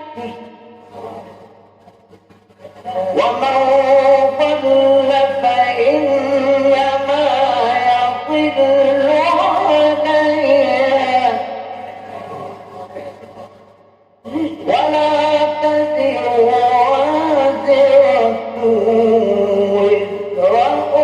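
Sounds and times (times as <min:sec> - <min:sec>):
steady low hum: 0:00.0 - 0:21.0
man chanting melodic recitation: 0:02.7 - 0:13.4, 0:14.3 - 0:21.0.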